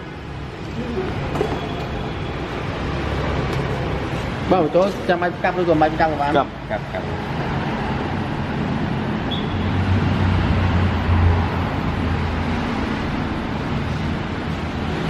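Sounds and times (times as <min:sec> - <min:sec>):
continuous rushing noise: 0:00.0 - 0:15.0.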